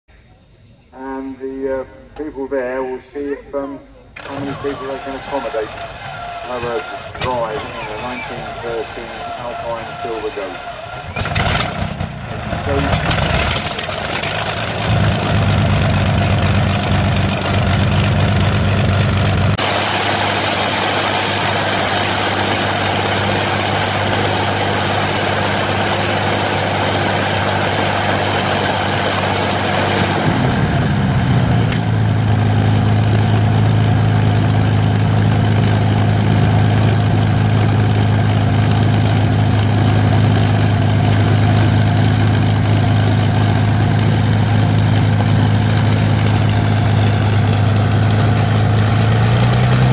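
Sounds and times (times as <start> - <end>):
aircraft engine running: 4.1 - 49.9.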